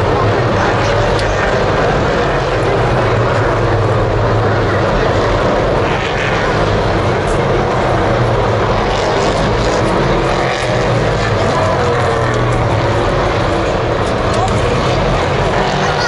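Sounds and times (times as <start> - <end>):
distant race car engines droning: 0.0 - 16.0.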